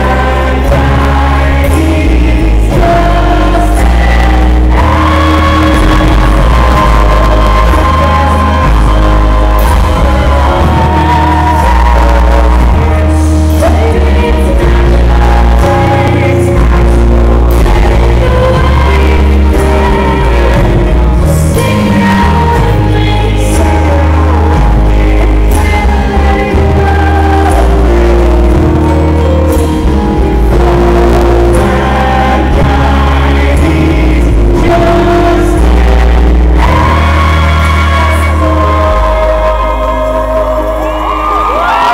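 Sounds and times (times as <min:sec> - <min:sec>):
held bass notes: 0:00.0 - 0:41.9
keyboards: 0:00.0 - 0:41.9
live pop band: 0:00.0 - 0:41.9.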